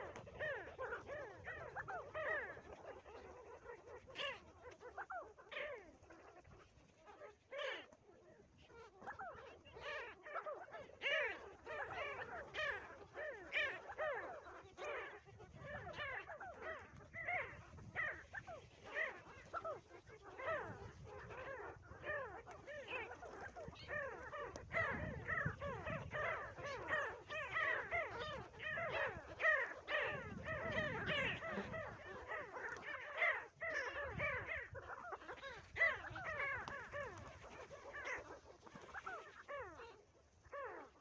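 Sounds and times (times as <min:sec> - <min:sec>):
flock of birds calling: 0:00.0 - 0:41.0.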